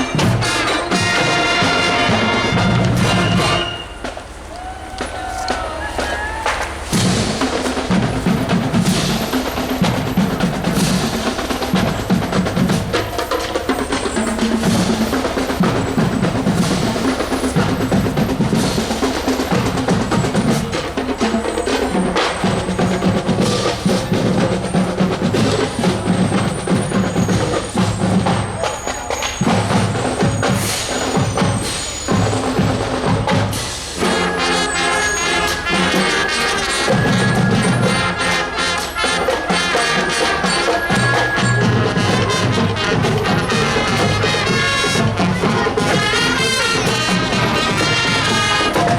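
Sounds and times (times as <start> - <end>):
marching drumline cadence: 0.0 - 48.9
wind and brass playing a tune: 0.0 - 48.9
bass drum: 5.0 - 28.7, 29.4 - 48.9.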